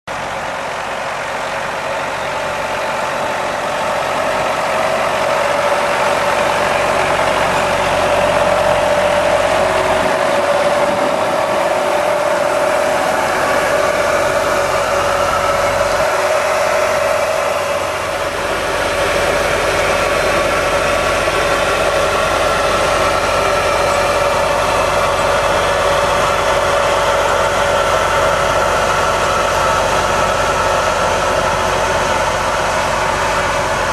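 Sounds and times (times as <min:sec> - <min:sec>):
tractor engine running: 0:00.0 - 0:33.9
seed drill sowing units working: 0:00.1 - 0:33.9.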